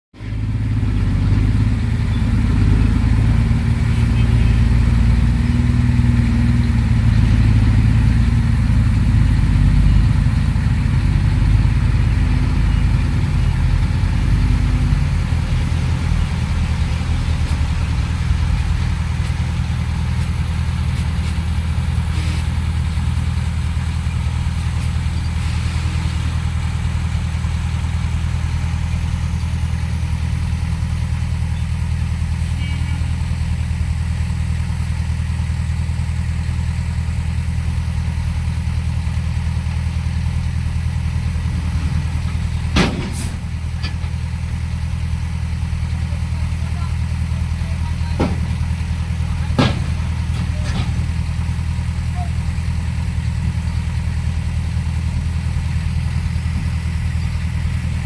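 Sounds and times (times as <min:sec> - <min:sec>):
diesel engine droning: 0:00.1 - 0:58.0.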